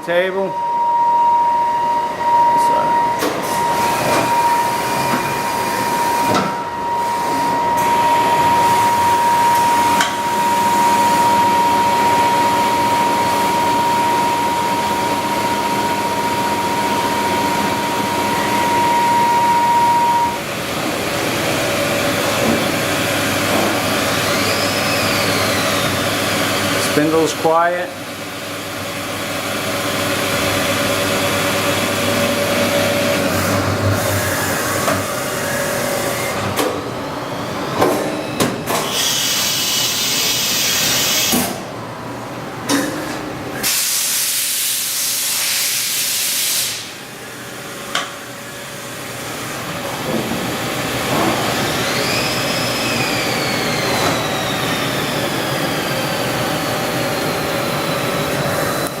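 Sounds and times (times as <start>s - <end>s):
machining center humming: 0.0s - 44.2s, 46.7s - 59.0s
machine whine: 0.0s - 59.0s.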